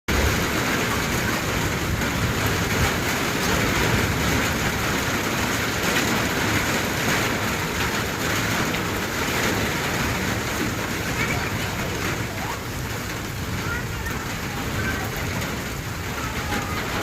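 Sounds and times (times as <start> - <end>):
heavy rain hissing: 0.1 - 17.0
raindrops ticking on surfaces: 0.1 - 17.0.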